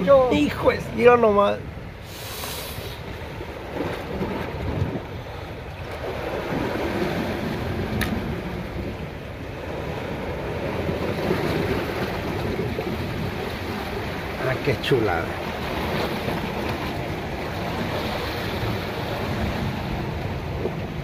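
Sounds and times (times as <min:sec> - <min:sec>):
sea waves washing against rocks: 0:00.0 - 0:21.0
wind buffeting microphone: 0:02.8 - 0:21.0.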